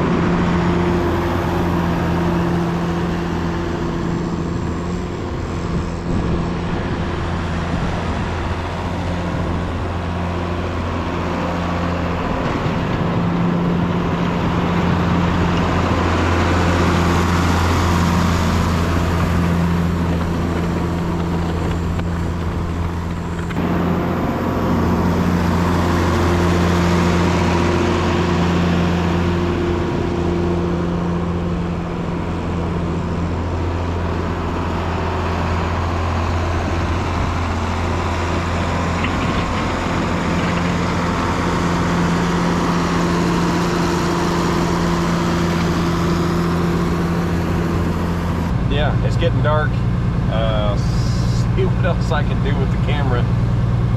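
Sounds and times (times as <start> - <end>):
snow-clearing vehicle engine: 0.0 - 53.9.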